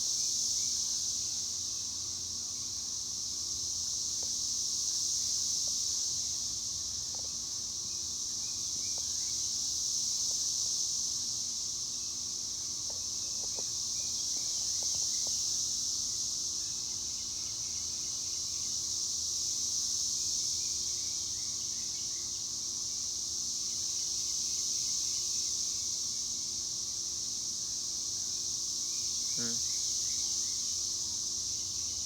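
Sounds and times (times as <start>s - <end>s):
cicadas buzzing chorus: 0.0s - 32.0s.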